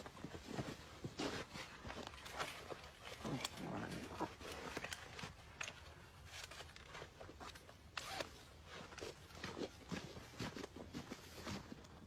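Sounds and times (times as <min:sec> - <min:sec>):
rustling and crackling movement: 0:00.0 - 0:12.0.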